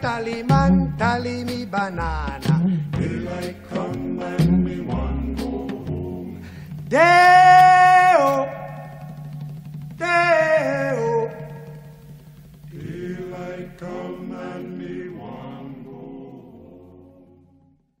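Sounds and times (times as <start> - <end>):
music with chant-like held tones: 0.0 - 17.9.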